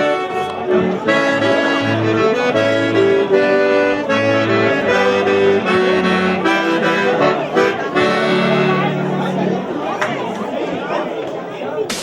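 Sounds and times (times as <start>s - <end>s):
accordion playing a tune: 0.0s - 10.3s.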